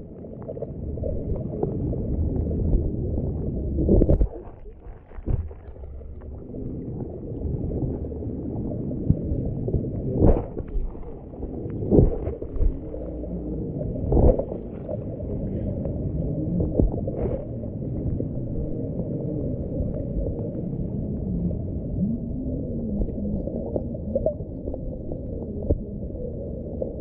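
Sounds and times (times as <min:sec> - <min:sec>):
muffled underwater stream rumble: 0:00.0 - 0:27.0.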